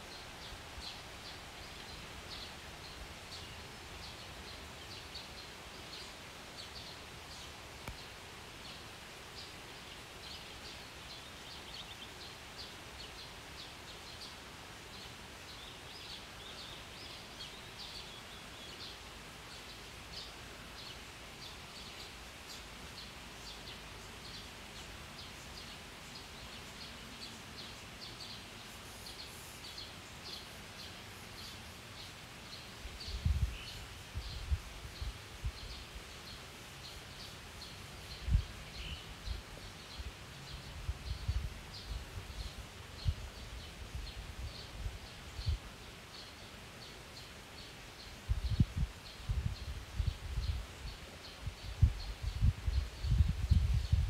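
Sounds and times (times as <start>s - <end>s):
birds chirping: 0.0s - 54.0s
low background hiss: 0.0s - 54.0s.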